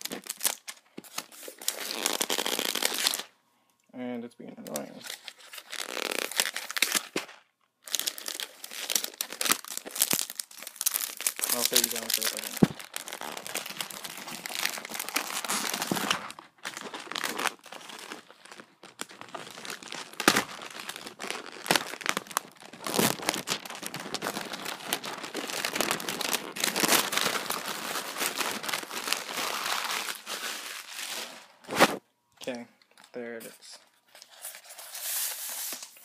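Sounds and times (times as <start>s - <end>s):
plastic packaging crinkling: 0.0s - 3.3s, 4.6s - 32.0s.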